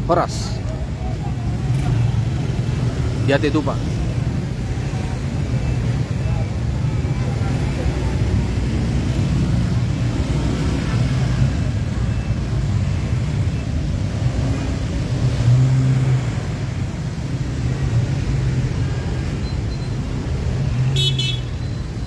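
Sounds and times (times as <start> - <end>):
idling engines rumbling: 0.0 - 22.0.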